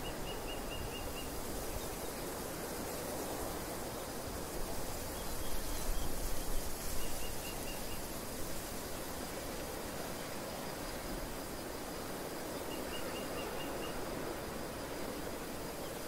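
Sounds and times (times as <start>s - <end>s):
wind rushing across a field: 0.0s - 16.0s.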